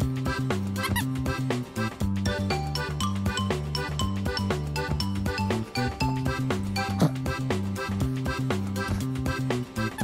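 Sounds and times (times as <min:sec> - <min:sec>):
upbeat music with steady beat: 0:00.0 - 0:10.0.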